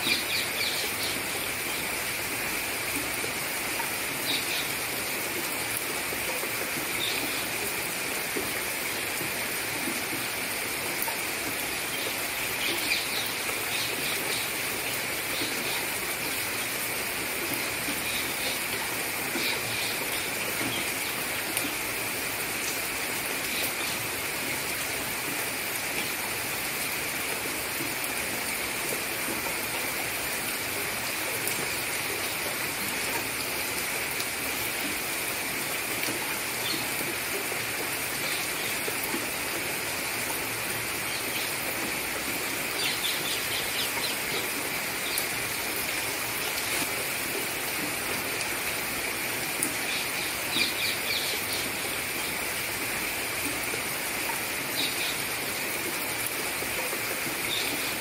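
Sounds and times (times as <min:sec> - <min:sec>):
rain falling on pond: 0:00.0 - 0:58.0.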